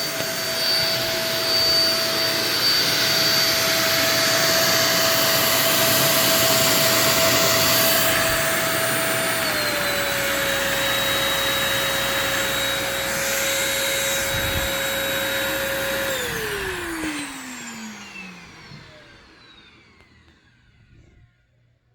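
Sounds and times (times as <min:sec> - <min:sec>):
stick vacuum whining: 0:00.0 - 0:21.3.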